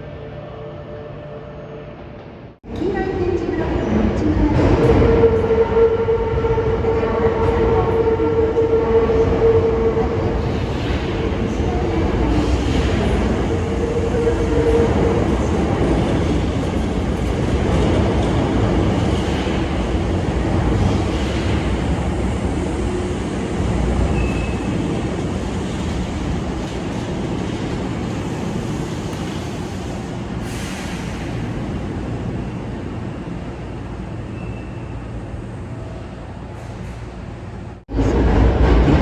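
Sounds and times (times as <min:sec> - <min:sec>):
electric train rumbling on track: 0:00.0 - 0:39.0.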